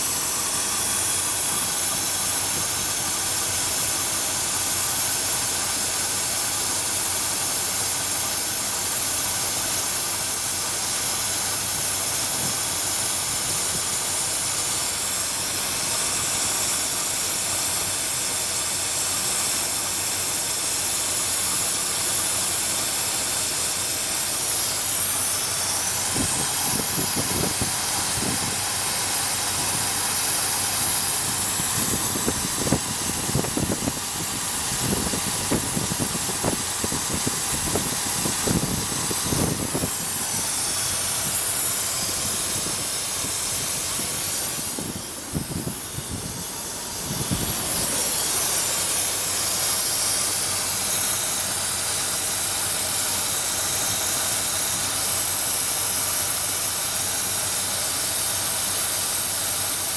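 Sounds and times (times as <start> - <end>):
engine idling: 0.0 - 59.9
steady loud hiss: 0.0 - 59.9.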